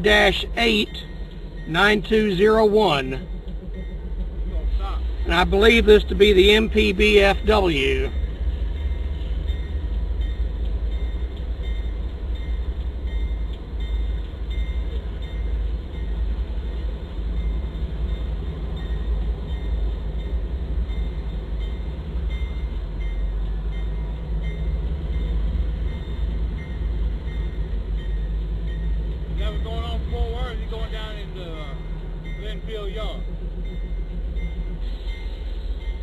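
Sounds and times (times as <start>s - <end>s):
diesel locomotives rumbling: 0.0s - 36.0s
wheels ticking on rails: 0.0s - 36.0s.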